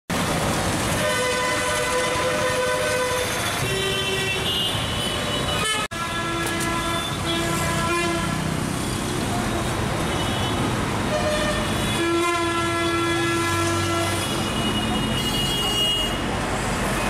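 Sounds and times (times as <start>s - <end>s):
traffic engines din: 0.1s - 17.0s
vehicle horns honking: 1.0s - 8.5s, 10.1s - 16.3s.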